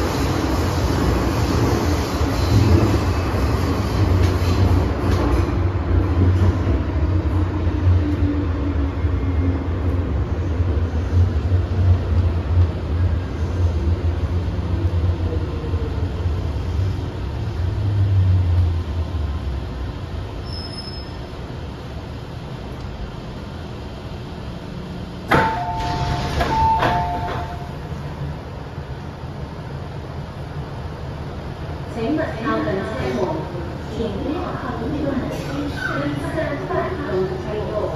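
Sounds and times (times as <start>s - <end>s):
train wheels rumbling on track: 0.0s - 37.9s.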